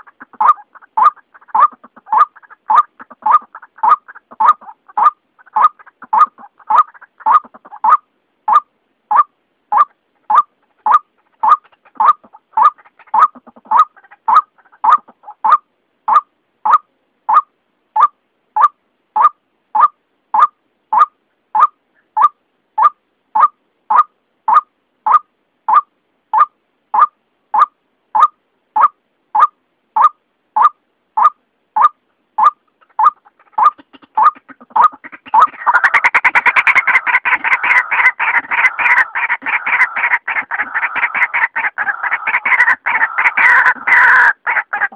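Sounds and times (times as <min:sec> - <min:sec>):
waterhen calling sharp notes: 0:00.0 - 0:44.9.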